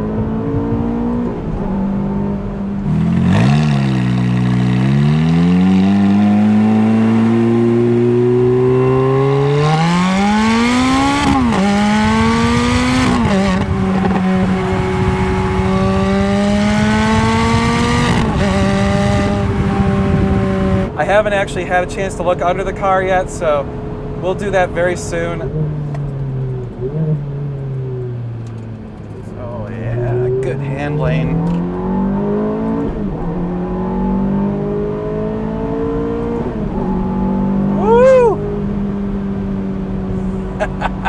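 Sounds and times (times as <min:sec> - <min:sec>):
sports car engine accelerating: 0:00.0 - 0:41.0.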